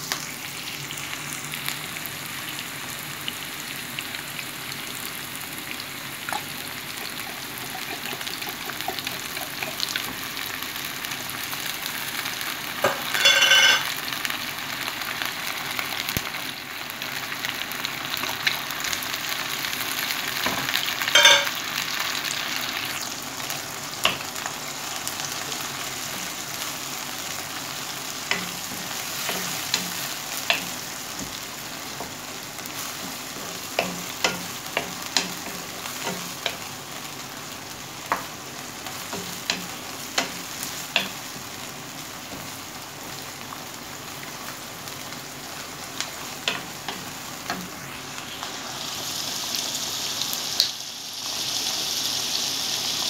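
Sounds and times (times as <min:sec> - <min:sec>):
onion and garlic sizzling in oil: 0:00.0 - 0:53.0.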